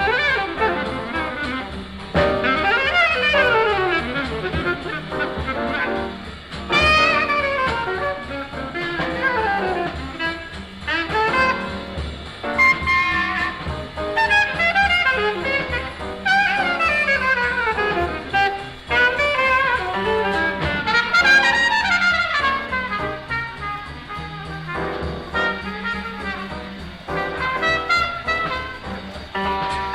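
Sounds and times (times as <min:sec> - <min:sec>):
bass: 0:00.0 - 0:29.9
drums: 0:00.0 - 0:29.9
horn solo in fast runs: 0:00.0 - 0:29.9.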